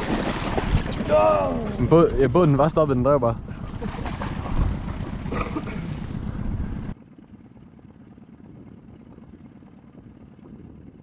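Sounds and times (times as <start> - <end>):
wind rumbling on microphone: 0.0 - 7.0, 7.8 - 11.0
low outdoor rumble: 0.0 - 11.0.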